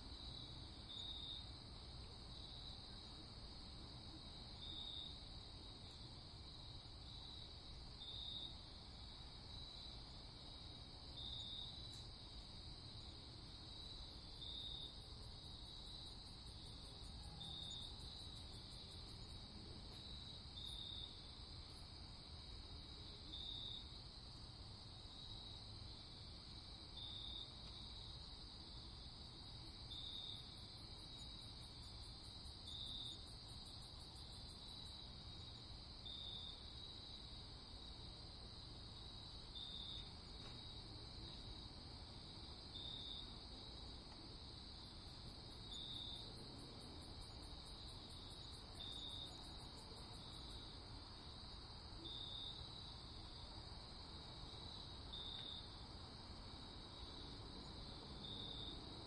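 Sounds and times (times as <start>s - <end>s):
insect chirp: 0.0s - 59.0s.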